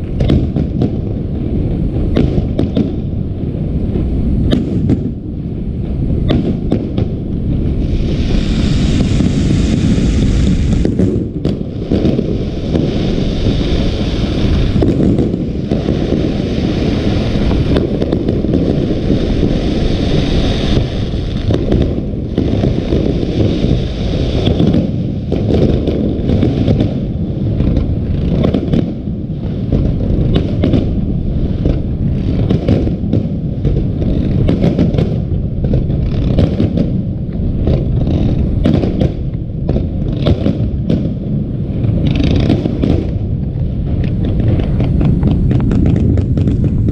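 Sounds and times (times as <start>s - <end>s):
fireworks banging: 0.0s - 46.9s
hissing crackle: 0.0s - 46.9s
low rumble: 0.0s - 46.9s.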